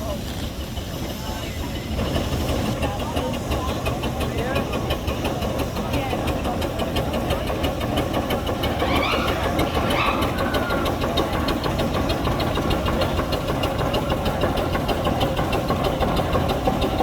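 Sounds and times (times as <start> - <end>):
steam traction engine running: 0.0 - 17.0.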